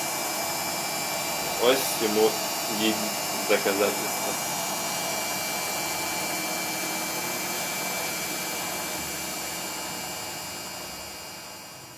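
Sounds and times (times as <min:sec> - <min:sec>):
washer-dryer drum spinning: 0:00.0 - 0:11.9.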